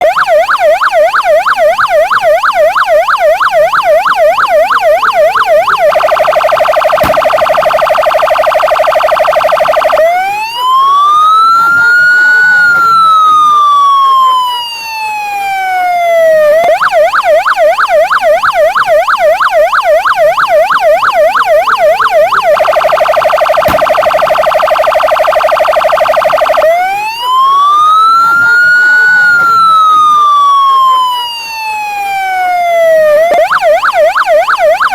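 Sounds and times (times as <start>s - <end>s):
police car siren: 0.0s - 34.9s.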